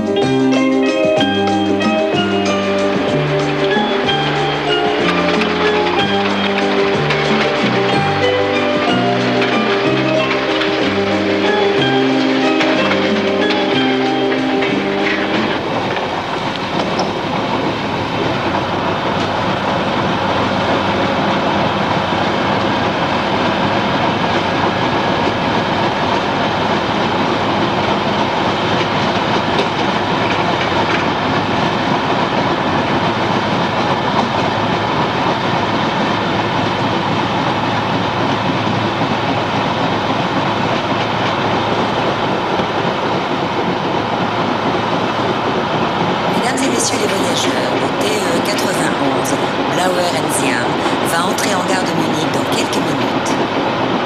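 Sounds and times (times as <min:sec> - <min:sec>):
train wheels rolling on track: 0:00.0 - 0:54.0.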